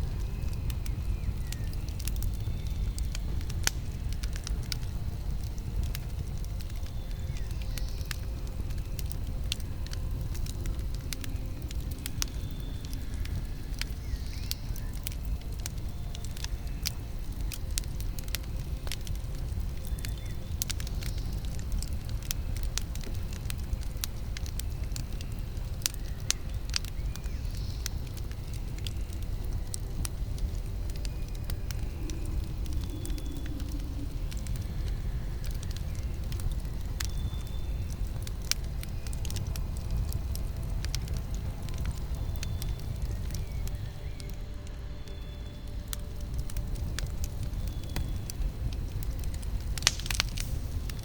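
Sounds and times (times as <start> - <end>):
low fire rumble: 0.0 - 51.0
wood crackling and popping in fire: 0.0 - 51.0.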